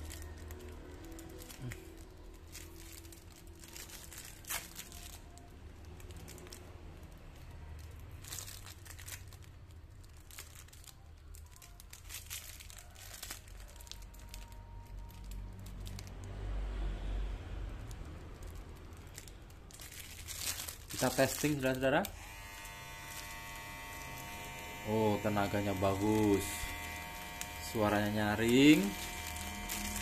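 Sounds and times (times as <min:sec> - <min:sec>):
plastic wrapping crinkling and tearing: 0:00.0 - 0:16.5, 0:17.8 - 0:30.0.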